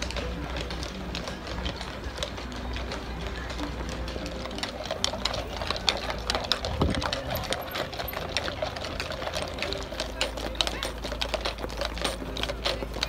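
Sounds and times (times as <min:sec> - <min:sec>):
horse hooves on asphalt: 0:00.0 - 0:13.0.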